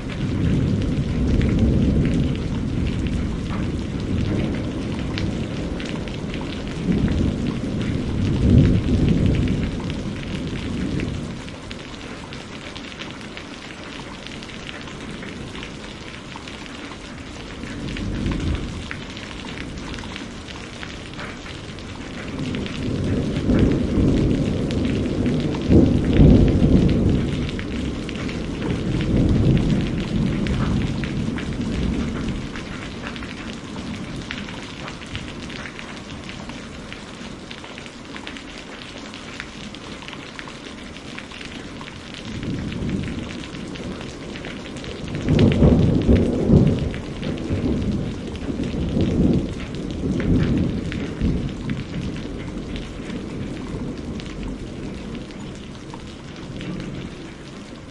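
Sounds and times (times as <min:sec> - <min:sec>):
low thunder rolling: 0:00.0 - 0:12.3, 0:17.3 - 0:37.3, 0:42.2 - 0:57.8
steady rain falling: 0:00.0 - 0:57.9.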